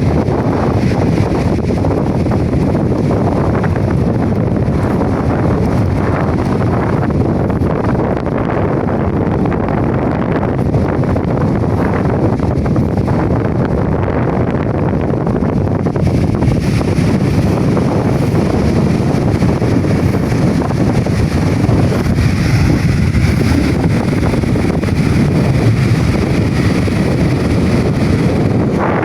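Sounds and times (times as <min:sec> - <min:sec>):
waves washing onto beach: 0:00.0 - 0:29.0
wind buffeting microphone: 0:00.0 - 0:29.0.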